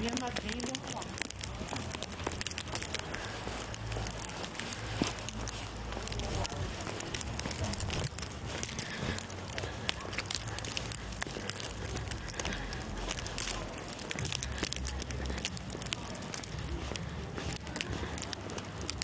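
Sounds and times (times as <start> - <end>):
dense crackling and ticking: 0.0 - 19.0.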